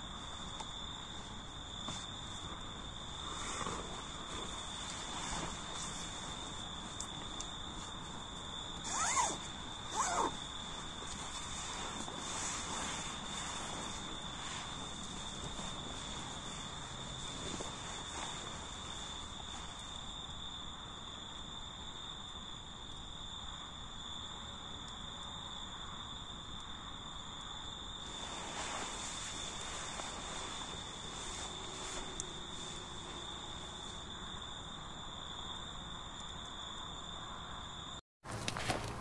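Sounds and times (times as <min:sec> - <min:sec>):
soft outdoor rustle: 0:00.0 - 0:21.2, 0:27.7 - 0:37.2, 0:38.2 - 0:39.0
insects chirring: 0:00.0 - 0:39.0.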